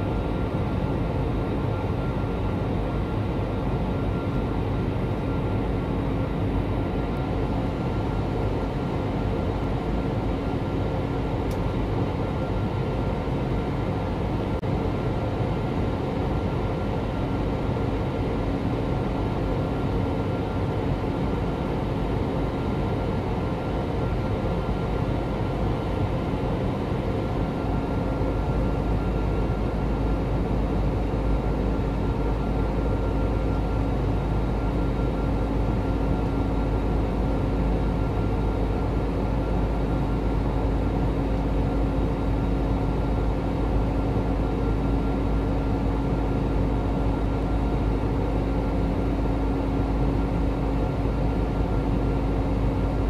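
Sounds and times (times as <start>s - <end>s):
engine and airflow rush: 0.0s - 53.0s.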